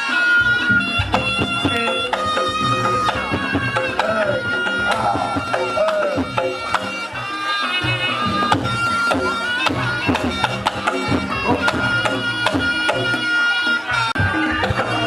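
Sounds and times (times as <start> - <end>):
shawm playing held notes: 0.0 - 15.0
hand drumming: 0.8 - 13.2.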